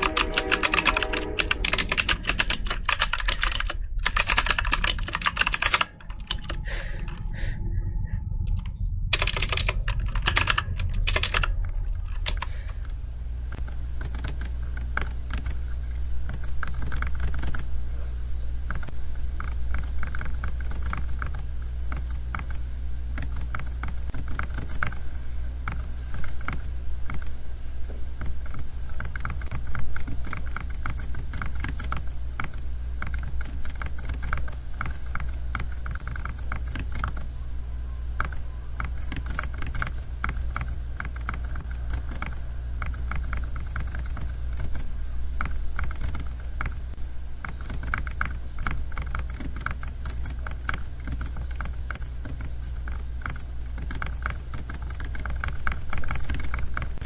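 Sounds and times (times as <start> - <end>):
keyboard typing: 0.0 - 7.3, 8.5 - 17.7, 18.7 - 25.0, 25.6 - 27.3, 28.2 - 37.3, 38.2 - 57.0
low hum: 0.0 - 57.0.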